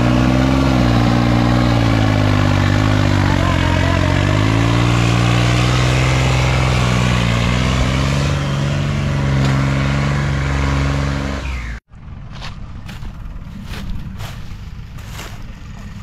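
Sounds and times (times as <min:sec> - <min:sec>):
tractor engine under heavy load: 0:00.0 - 0:16.0.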